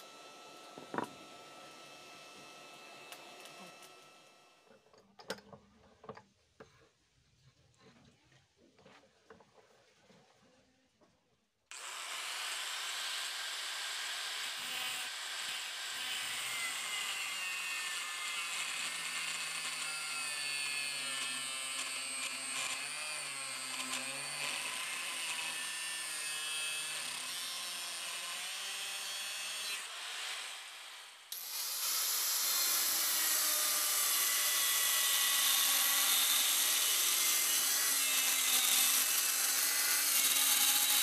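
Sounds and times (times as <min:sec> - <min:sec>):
angle grinder cutting steel: 0:00.0 - 0:04.4, 0:11.7 - 0:41.0.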